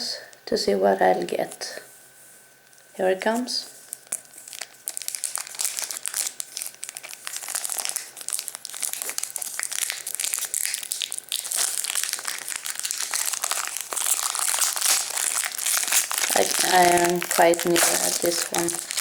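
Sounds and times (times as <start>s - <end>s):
foil wrapper crinkling: 3.7s - 19.0s.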